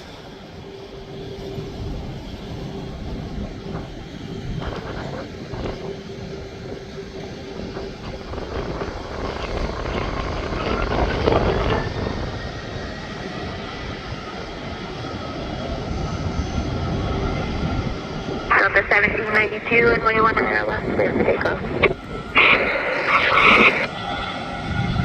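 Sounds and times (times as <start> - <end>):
jet engines rumbling: 0.0 - 25.0
rising engine whine: 0.0 - 25.0.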